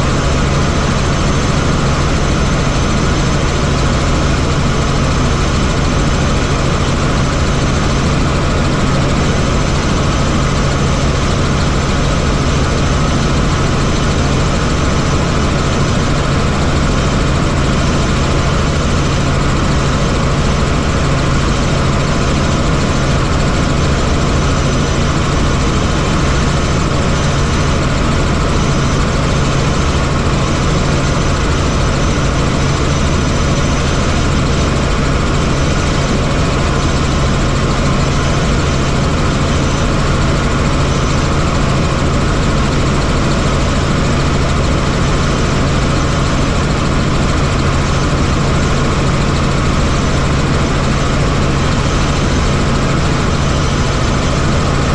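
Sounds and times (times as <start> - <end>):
helicopter engine and rotors: 0.0 - 54.9.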